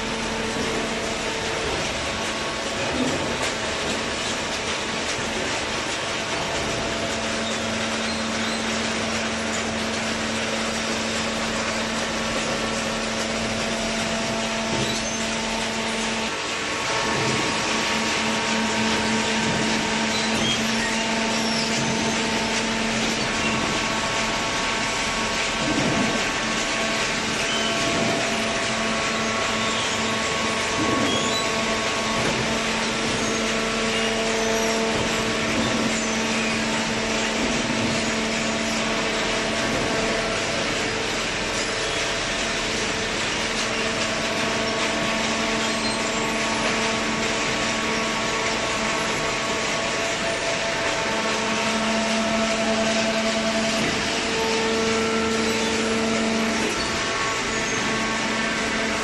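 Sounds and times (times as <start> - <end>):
baler machine drone: 0.0 - 59.0.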